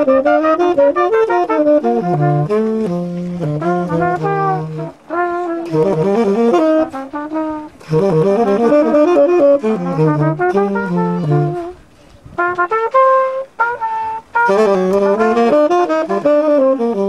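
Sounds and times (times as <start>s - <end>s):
tenor saxophone playing jazz: 0.0s - 17.0s
trumpet playing jazz: 0.0s - 17.0s.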